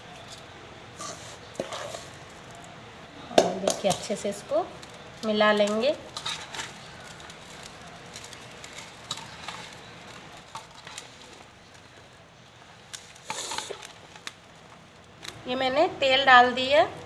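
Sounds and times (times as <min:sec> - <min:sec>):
spoon stirring gritty rustle: 0:00.0 - 0:02.9, 0:03.6 - 0:15.5.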